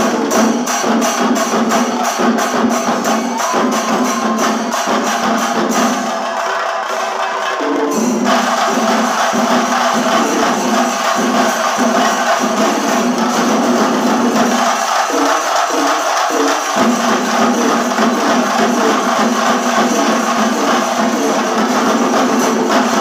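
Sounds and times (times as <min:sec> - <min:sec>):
drums beaten together: 0:00.0 - 0:23.0.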